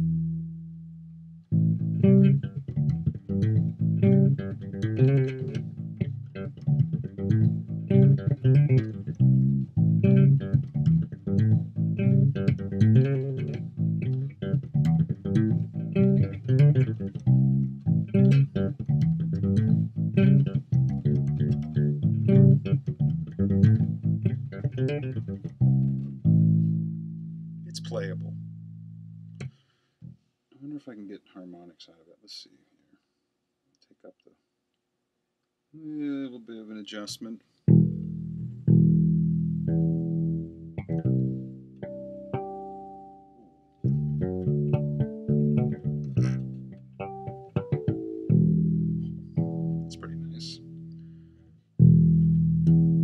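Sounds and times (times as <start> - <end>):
electric bass line: 0.0 - 29.5, 37.7 - 53.0.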